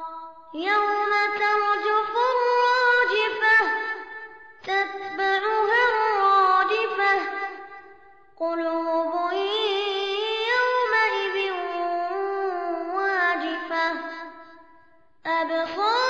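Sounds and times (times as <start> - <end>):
child chanting melodically: 0.0 - 7.8, 8.4 - 14.4, 15.3 - 16.0.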